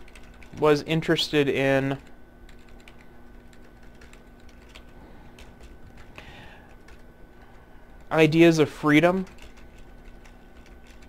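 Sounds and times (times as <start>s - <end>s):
faint electrical hum: 0.0s - 11.0s
keyboard typing: 0.0s - 11.0s.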